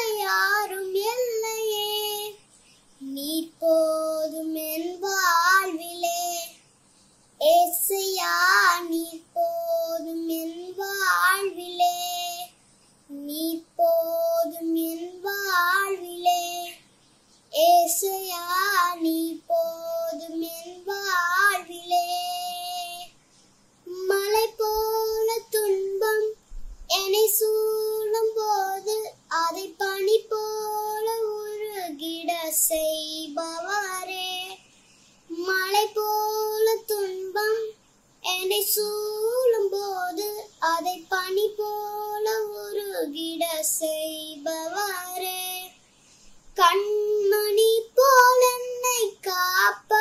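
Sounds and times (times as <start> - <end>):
girl singing unaccompanied: 0.0 - 50.0.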